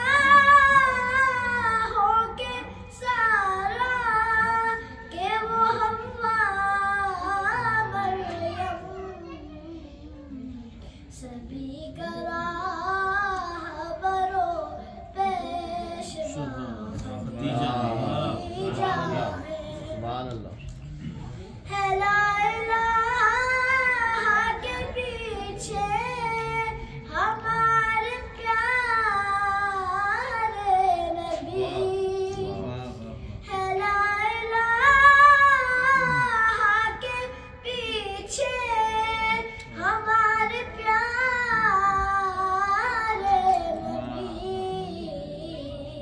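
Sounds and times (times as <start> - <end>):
boy singing unaccompanied: 0.0 - 20.2, 21.7 - 46.0.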